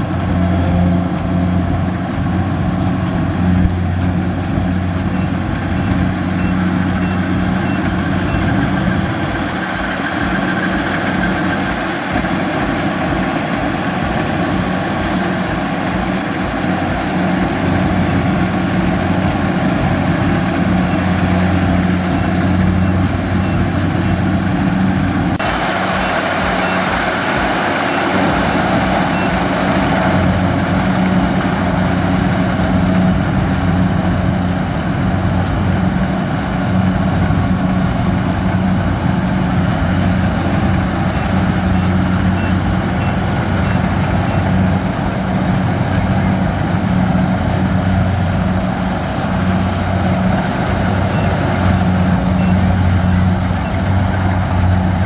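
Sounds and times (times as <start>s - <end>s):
diesel engine humming: 0.0s - 55.0s
machinery clattering: 0.0s - 55.0s.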